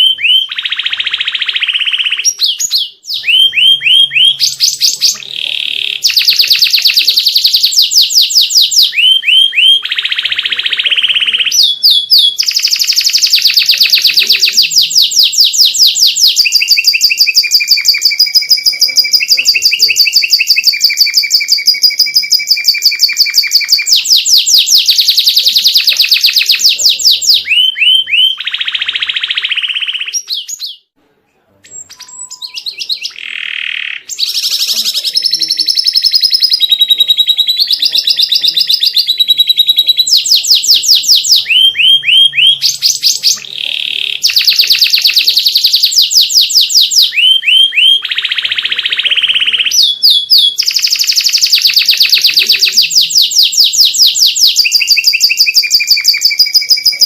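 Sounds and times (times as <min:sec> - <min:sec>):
canary singing trills: 0:00.0 - 0:30.9, 0:31.6 - 0:57.0.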